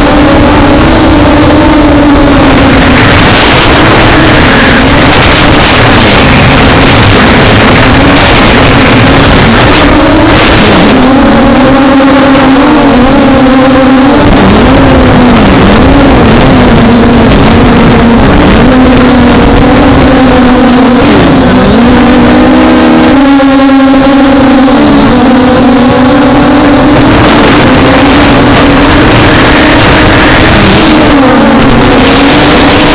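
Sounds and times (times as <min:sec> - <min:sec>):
drone motors humming: 0:00.0 - 0:32.9
wind rush on microphone: 0:00.0 - 0:32.9.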